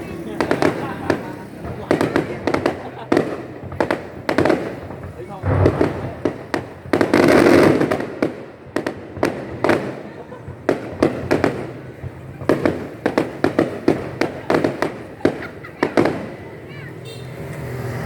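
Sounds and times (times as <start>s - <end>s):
fireworks bangs and pops: 0.0s - 18.0s
fireworks crackling: 0.0s - 18.0s.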